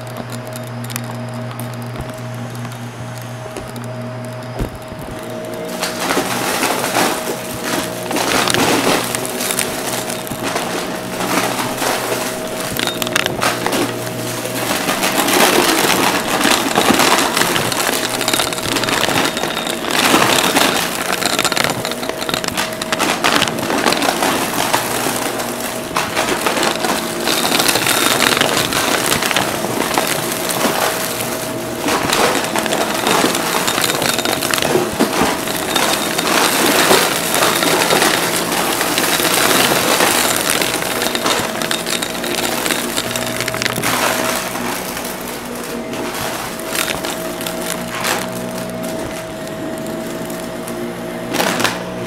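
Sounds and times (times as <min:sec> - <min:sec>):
vacuum cleaner motor hum: 0:00.0 - 0:52.0.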